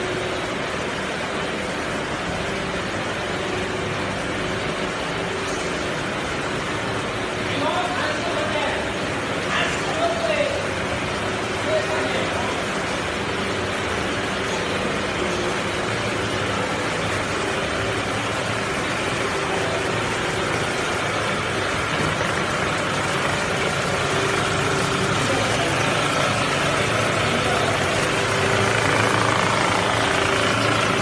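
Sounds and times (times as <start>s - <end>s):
machine mechanical hum: 0.0s - 31.0s.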